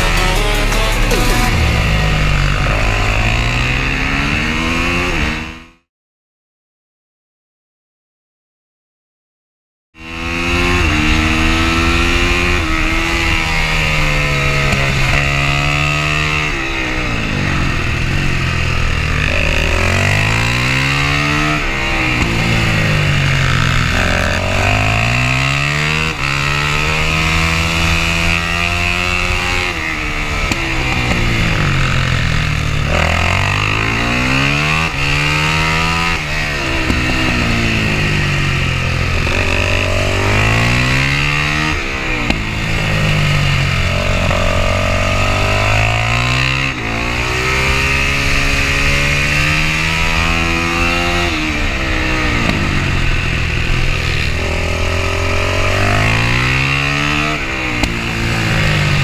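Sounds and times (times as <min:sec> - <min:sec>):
motorcycle engine revving: 0:00.0 - 0:05.9, 0:10.0 - 0:59.0.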